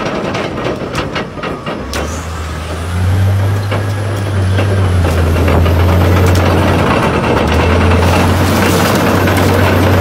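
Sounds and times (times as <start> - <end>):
bulldozer diesel engine droning: 0.0 - 10.0.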